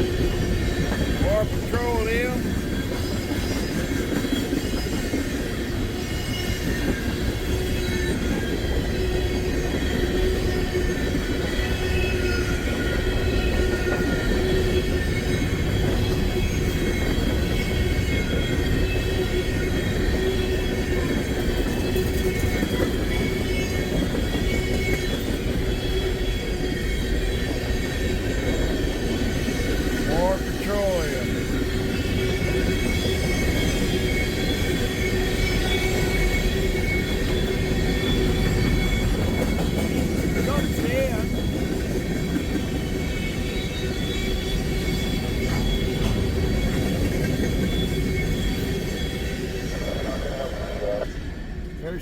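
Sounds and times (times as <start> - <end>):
high wheel squeals: 0.0 - 51.0
train wheels rumbling on rail: 0.0 - 52.0.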